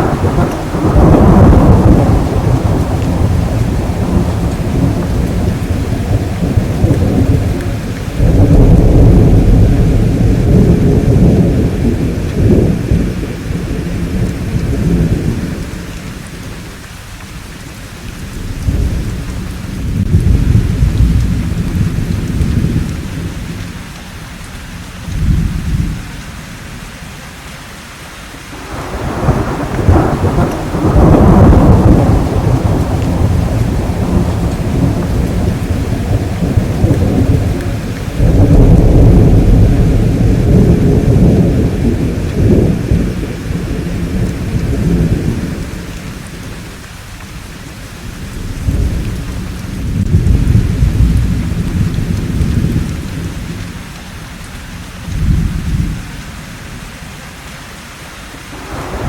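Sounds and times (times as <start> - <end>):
rolling thunder: 0.0 - 16.8, 18.0 - 24.0, 24.6 - 26.8, 28.6 - 56.8, 58.5 - 59.0
steady rain: 0.0 - 59.0.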